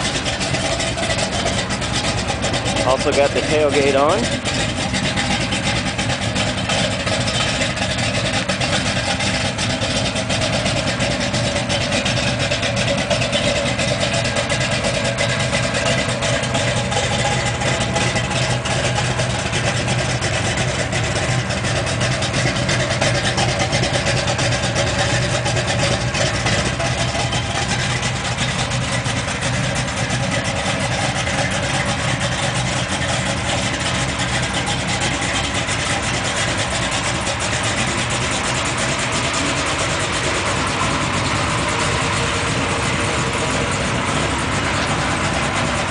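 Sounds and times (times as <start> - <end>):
engine idling: 0.0 - 45.9.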